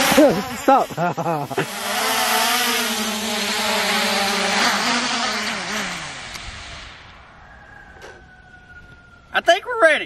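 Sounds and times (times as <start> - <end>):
drone propellers whirring: 0.0 - 9.2.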